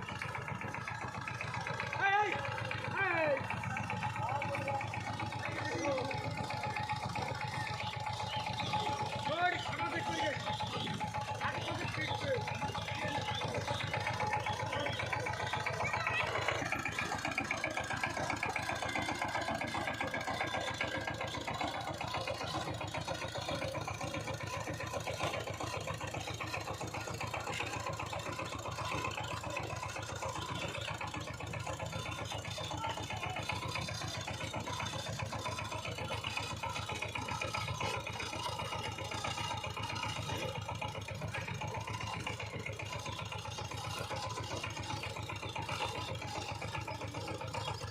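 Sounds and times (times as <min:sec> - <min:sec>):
diesel engine chugging: 0:00.0 - 0:47.9.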